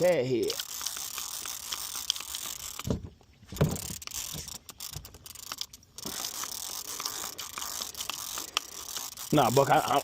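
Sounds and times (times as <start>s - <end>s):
fishing reel ratcheting: 0.0s - 3.0s, 3.6s - 10.0s.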